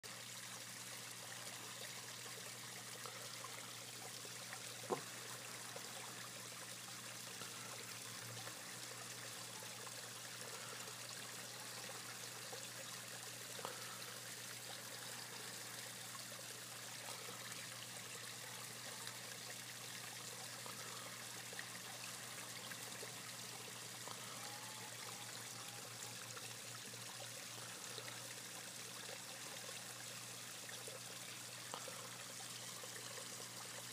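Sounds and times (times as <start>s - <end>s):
water trickling into pond: 0.0s - 33.9s.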